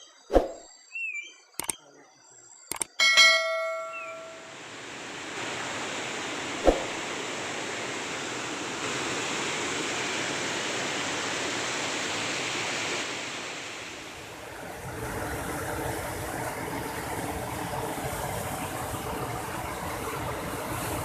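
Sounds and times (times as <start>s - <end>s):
flowing water rushing: 3.0s - 21.0s.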